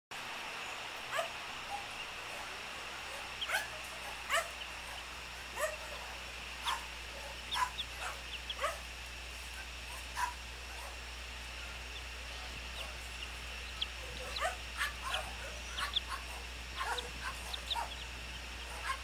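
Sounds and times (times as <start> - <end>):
steady high hiss: 0.2 - 19.0
flying foxes squawking: 0.7 - 19.0.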